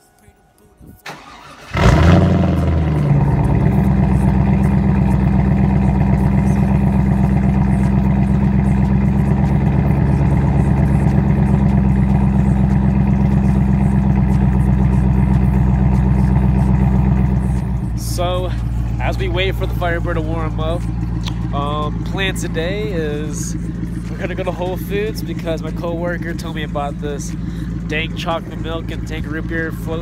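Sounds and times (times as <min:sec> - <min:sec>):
car engine starting and idling: 0:01.0 - 0:30.0.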